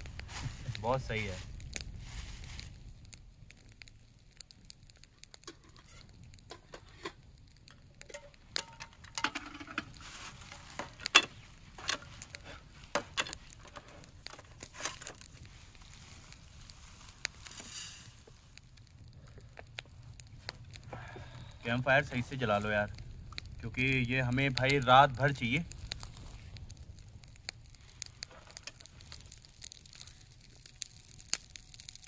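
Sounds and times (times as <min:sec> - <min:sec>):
plastic crinkling: 0:00.0 - 0:32.0.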